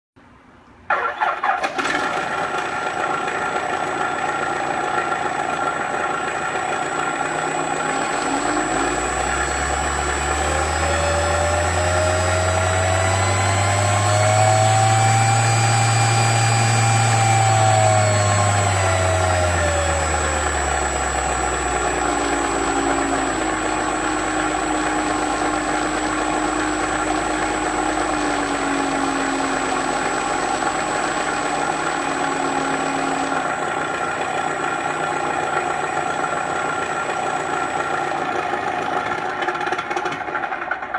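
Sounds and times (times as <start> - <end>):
simulated light aircraft engine: 1.1 - 40.9
steady high whine: 2.6 - 38.9.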